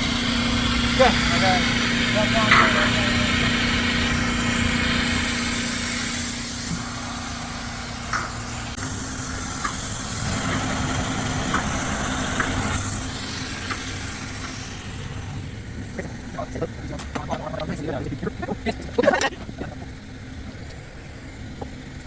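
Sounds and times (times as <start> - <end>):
pump engine running: 0.0 - 22.0
water spraying hiss: 0.0 - 22.0.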